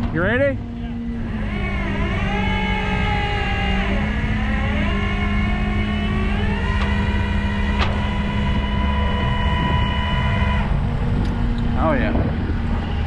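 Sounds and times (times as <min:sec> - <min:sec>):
constant low hum: 0:00.0 - 0:13.0
tractor engine under load: 0:00.0 - 0:13.0.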